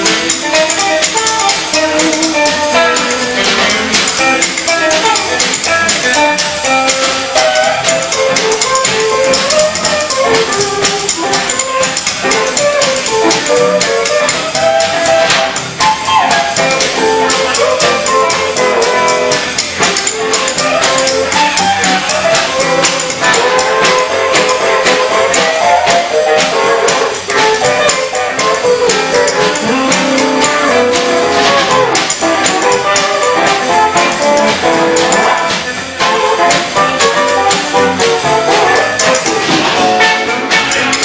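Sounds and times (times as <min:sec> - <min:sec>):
live band music: 0:00.0 - 0:41.0.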